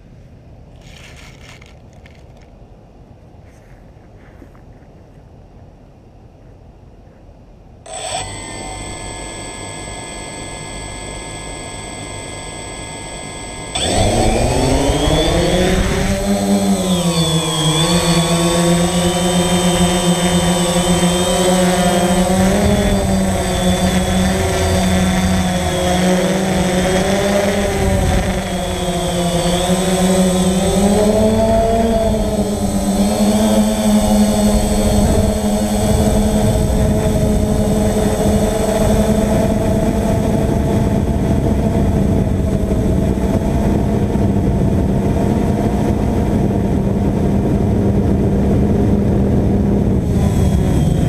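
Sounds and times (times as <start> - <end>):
drone motors buzzing: 7.9 - 51.0.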